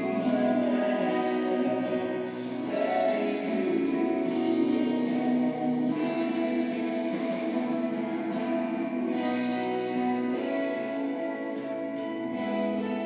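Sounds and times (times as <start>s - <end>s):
person singing: 0.0s - 13.0s
strummed acoustic guitar: 0.0s - 13.0s.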